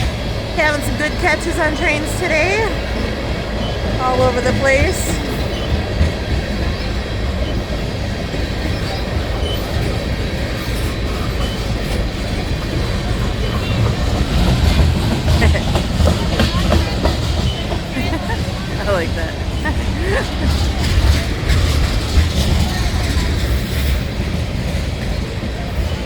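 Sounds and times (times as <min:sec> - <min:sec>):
freight train rumbling past: 0:00.0 - 0:26.0
wheels clicking over rail joints: 0:00.0 - 0:26.0.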